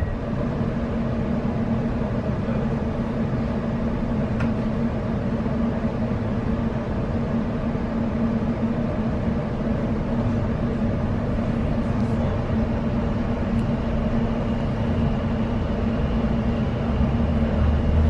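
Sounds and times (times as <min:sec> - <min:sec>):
constant hum: 0:00.0 - 0:18.0
train interior rumble: 0:00.0 - 0:18.0.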